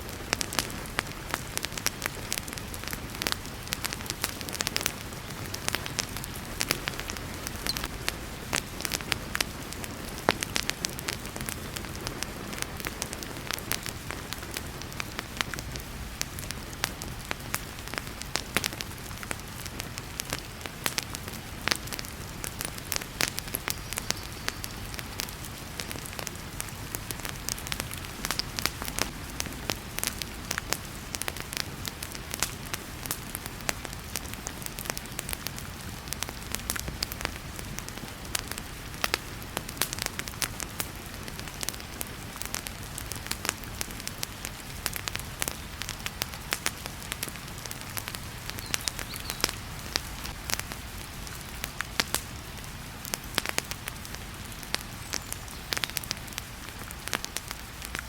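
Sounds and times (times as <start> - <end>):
heavy rain: 0.0 - 58.0
wood fire crackling: 0.0 - 58.0.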